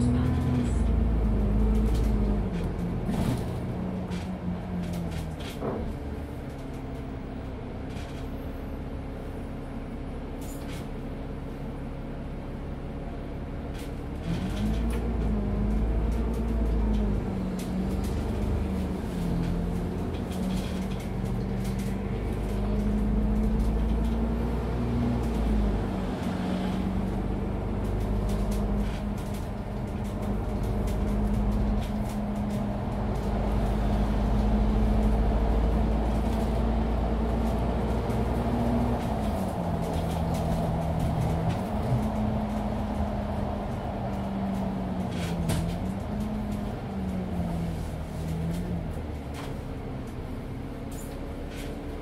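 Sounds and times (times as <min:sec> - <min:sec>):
bus engine: 0:00.0 - 0:52.0.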